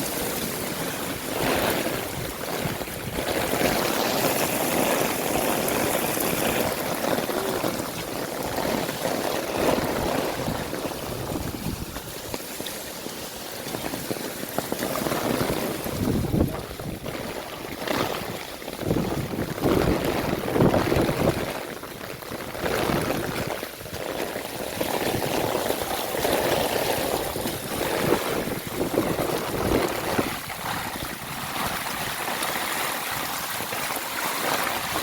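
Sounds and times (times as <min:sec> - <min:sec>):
heavy rain hissing: 0:00.0 - 0:35.0
running water: 0:00.0 - 0:35.0.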